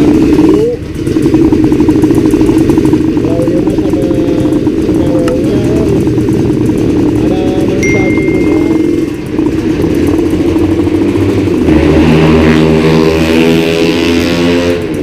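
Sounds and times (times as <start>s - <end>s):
two-stroke motorcycle engine: 0.0s - 15.0s.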